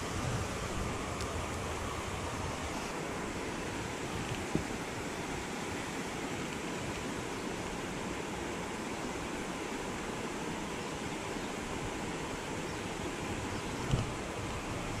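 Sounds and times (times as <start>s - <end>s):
creek rushing over rocks: 0.0s - 15.0s.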